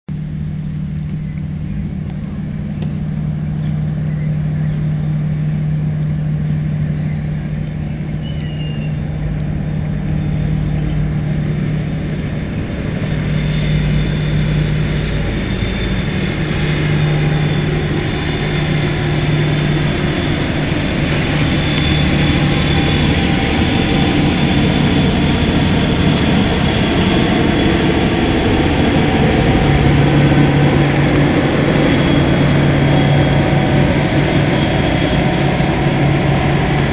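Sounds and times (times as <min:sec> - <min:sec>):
low diesel drone: 0:00.1 - 0:36.9
thin high whine: 0:00.2 - 0:36.9.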